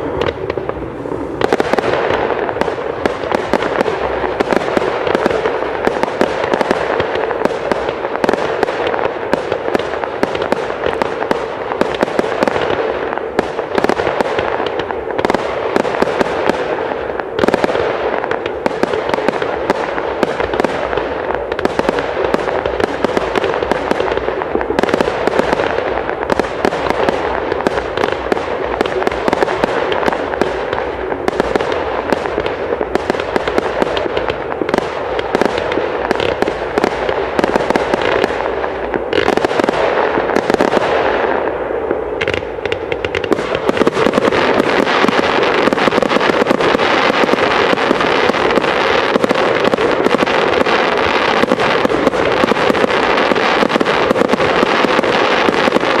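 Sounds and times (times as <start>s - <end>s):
fireworks crackling and popping: 0.0s - 56.0s
loud firework cracks: 0.0s - 56.0s.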